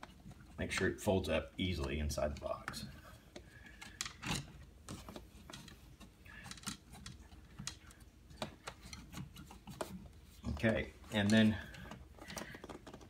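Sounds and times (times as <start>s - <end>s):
wires clicking and rustling: 0.0s - 13.0s.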